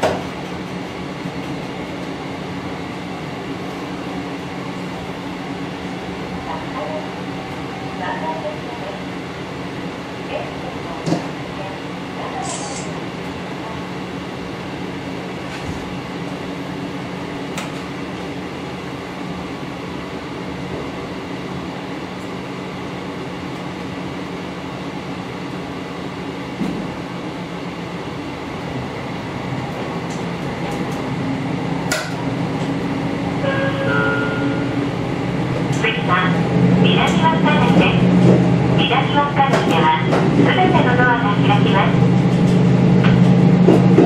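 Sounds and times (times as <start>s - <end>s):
diesel railcar engine idling: 0.0s - 44.0s.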